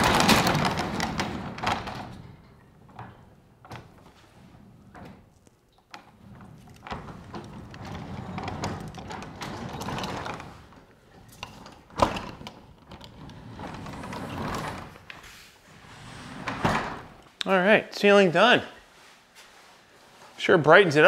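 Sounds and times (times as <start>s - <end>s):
garage door rollers rumbling: 0.0s - 17.2s
garage door clack: 0.0s - 17.3s.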